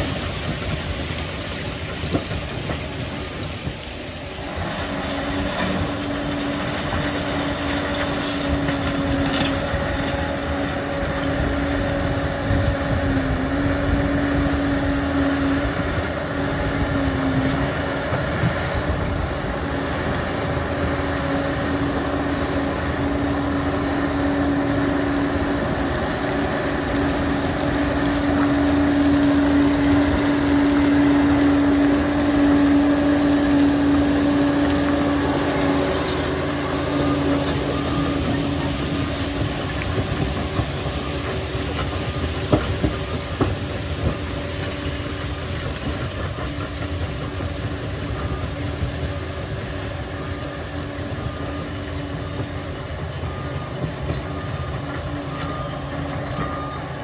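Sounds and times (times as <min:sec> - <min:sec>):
heavy diesel engine drone: 0:00.0 - 0:57.0.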